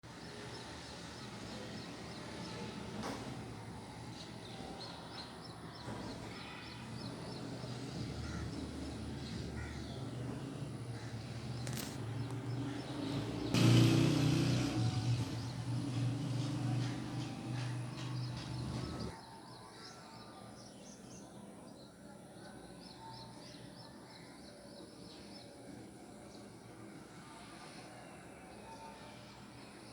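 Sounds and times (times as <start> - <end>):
birds chirping: 0.1 - 26.8.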